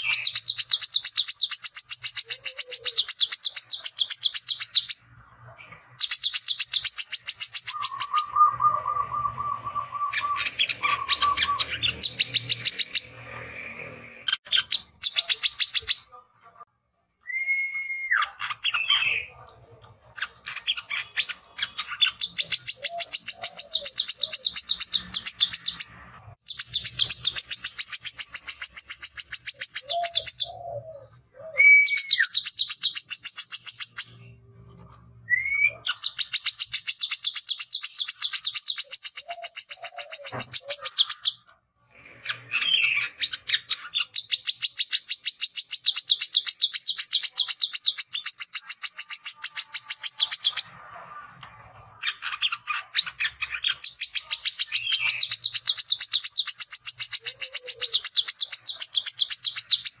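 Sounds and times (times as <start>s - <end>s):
bird chattering song: 0.0s - 16.2s, 18.2s - 34.4s, 35.7s - 50.8s, 51.4s - 60.0s.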